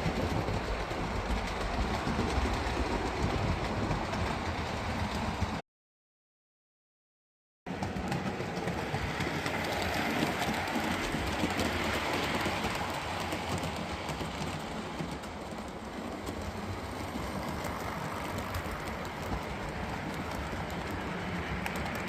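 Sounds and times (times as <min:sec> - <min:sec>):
model train rumbling on track: 0:00.0 - 0:05.6, 0:07.7 - 0:22.0.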